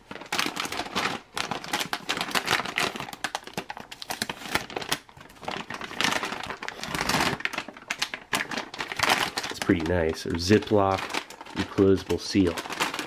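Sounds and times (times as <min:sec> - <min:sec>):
plastic pouch crinkling and tearing: 0:00.0 - 0:13.0.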